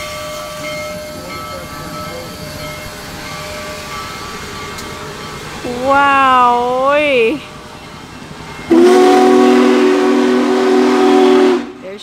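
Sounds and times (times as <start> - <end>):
steam locomotive rumbling: 0.0 - 12.0.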